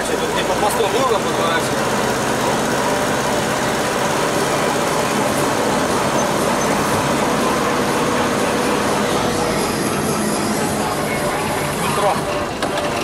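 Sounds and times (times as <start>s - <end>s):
van engine running: 0.0s - 13.0s.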